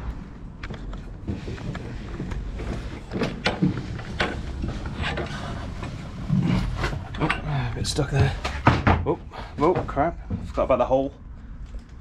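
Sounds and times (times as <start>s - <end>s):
sharp knocks and clatters: 0.6s - 10.6s.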